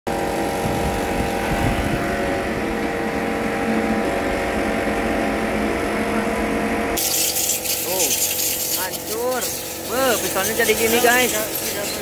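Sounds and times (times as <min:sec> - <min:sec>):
motorcycle engine drone: 0:00.1 - 0:12.0.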